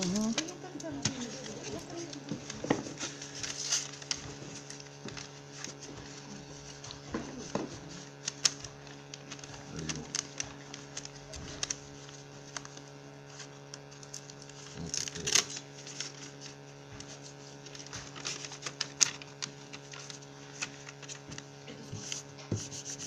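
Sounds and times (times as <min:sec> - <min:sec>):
electrical hum: 0:00.0 - 0:23.0
paper rustling: 0:00.0 - 0:23.0.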